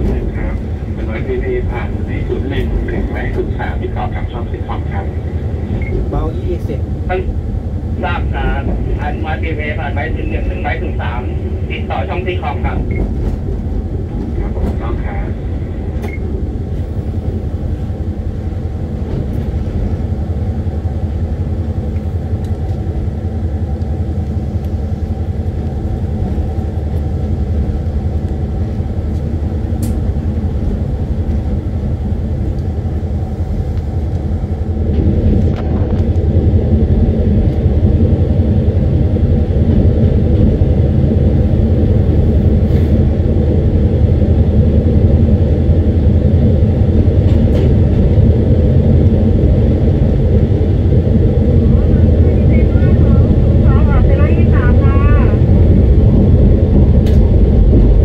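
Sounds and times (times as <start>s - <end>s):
diesel locomotive engine drone: 0.0s - 58.0s
train wheel rumble: 0.0s - 58.0s.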